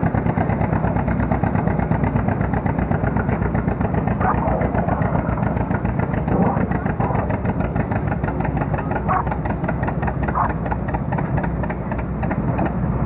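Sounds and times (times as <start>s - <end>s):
tractor engine popping under load: 0.1s - 13.0s.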